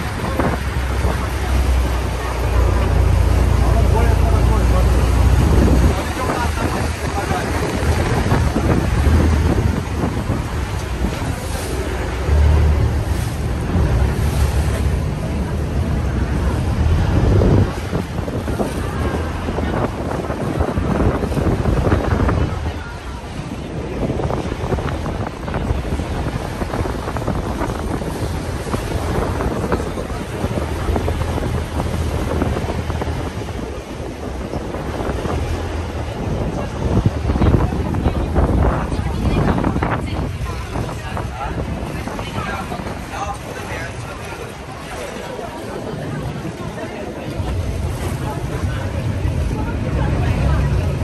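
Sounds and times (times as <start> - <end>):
low engine hum: 0.0 - 51.0
wind buffeting microphone: 0.0 - 51.0.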